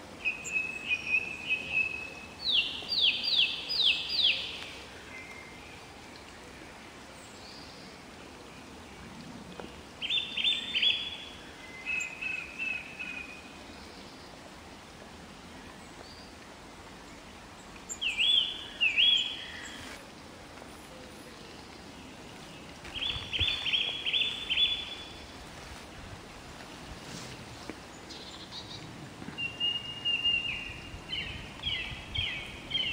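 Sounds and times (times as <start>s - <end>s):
faint steady hiss: 0.0s - 32.9s.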